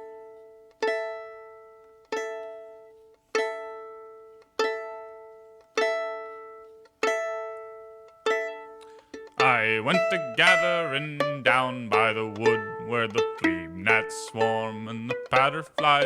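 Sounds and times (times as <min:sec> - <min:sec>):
plucked string chord: 0:00.0 - 0:16.0.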